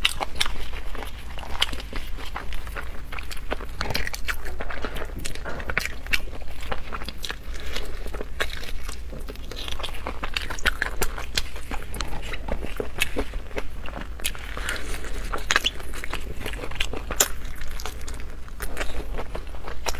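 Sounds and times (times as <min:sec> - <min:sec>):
wet bites and chewing: 0:00.0 - 0:19.9.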